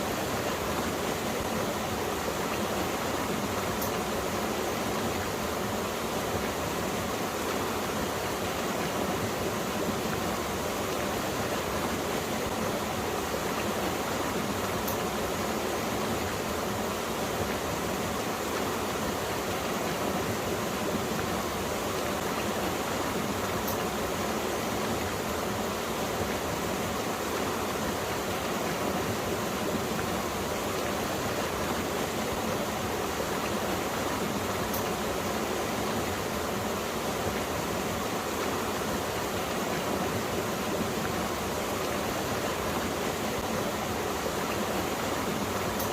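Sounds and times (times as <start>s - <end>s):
stream rushing over rocks: 0.0s - 45.9s.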